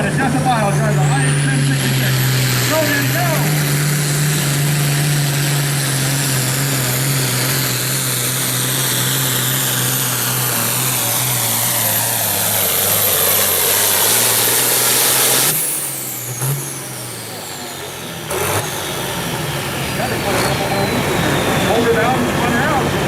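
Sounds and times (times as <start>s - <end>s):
diesel tractor engine at full throttle: 0.0s - 23.0s
high steady whine: 0.0s - 23.0s.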